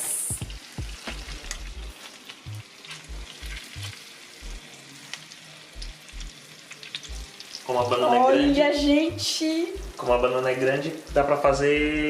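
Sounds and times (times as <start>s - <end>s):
bananas sizzling in a pan: 0.0s - 12.0s.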